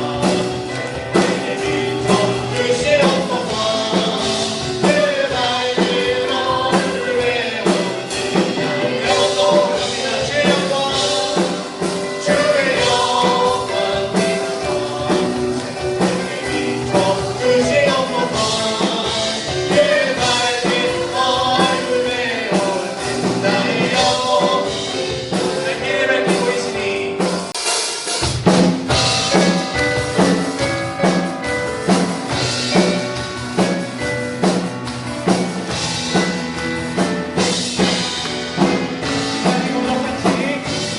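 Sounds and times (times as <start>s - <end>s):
drum kit beat: 0.0s - 40.9s
worship band music: 0.0s - 40.9s.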